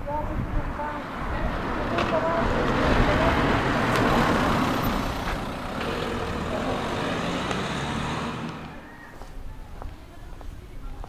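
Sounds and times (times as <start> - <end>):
motor vehicle passing: 0.1 - 9.3.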